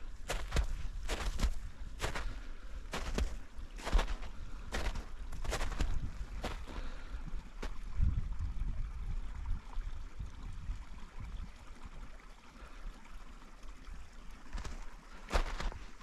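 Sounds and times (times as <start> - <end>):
creek running: 0.0 - 16.0.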